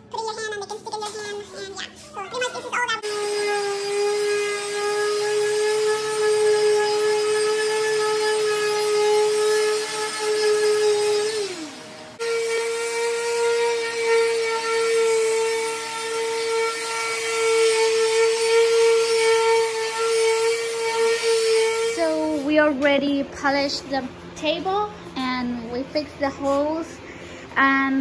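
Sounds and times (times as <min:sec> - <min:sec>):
palm sander running on wood: 0:01.5 - 0:28.0.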